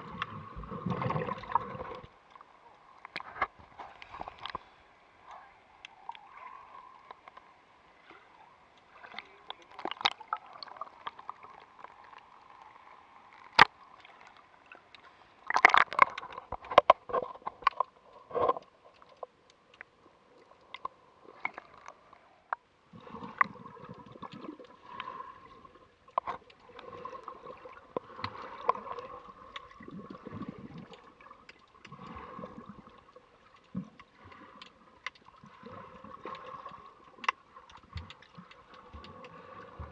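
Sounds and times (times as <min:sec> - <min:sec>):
low rumbling water surges: 0:00.0 - 0:16.8, 0:17.7 - 0:39.9
water sloshing and gurgling: 0:00.0 - 0:39.9.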